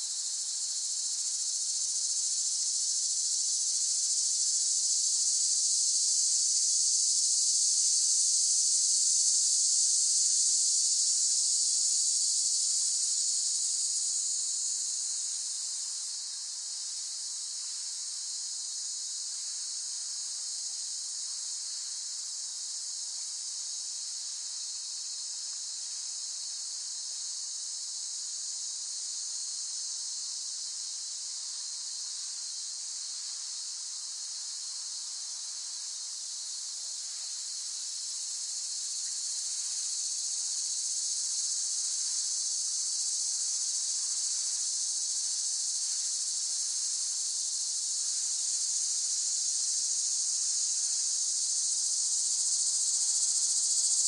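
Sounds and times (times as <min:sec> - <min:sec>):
cicadas buzzing: 0:00.0 - 0:15.2, 0:23.9 - 0:28.1, 0:28.7 - 0:54.0.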